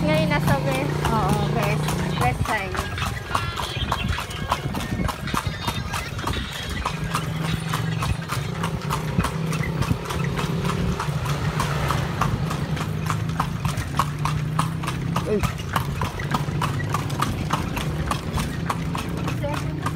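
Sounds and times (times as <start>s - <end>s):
engine humming: 0.0s - 19.9s
horse hooves clip-clopping on pavement: 0.0s - 19.9s.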